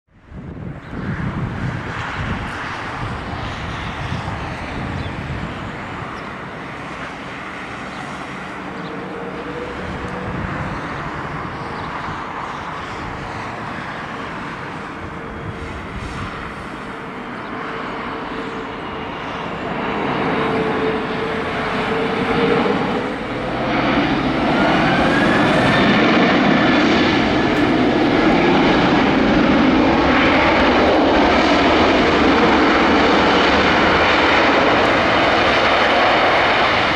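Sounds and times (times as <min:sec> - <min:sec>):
jet engines roaring: 0:00.1 - 0:36.9.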